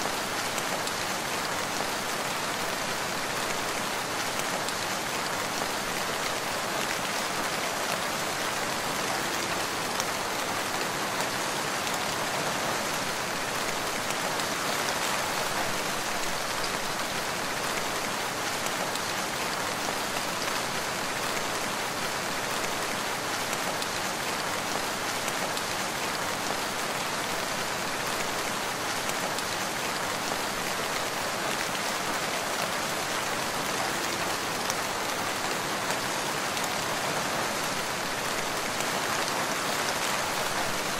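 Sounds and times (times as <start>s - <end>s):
rain falling on a forest: 0.0s - 40.9s.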